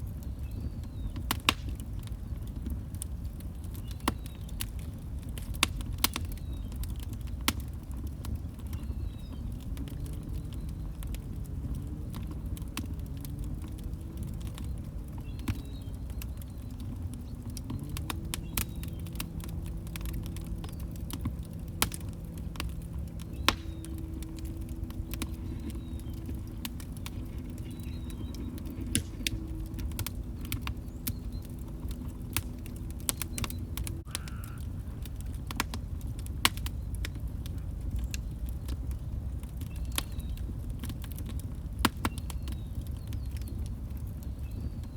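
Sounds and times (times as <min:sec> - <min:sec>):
low rumble of flame: 0:00.0 - 0:44.9
wood fire crackling and popping: 0:00.0 - 0:44.9.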